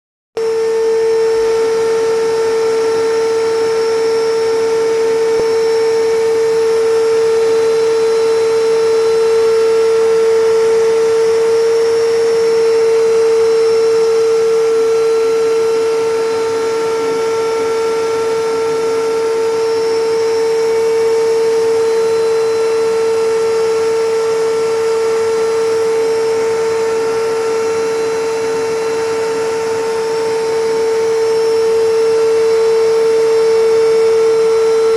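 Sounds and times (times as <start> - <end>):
vacuum cleaner running: 0.4 - 34.9.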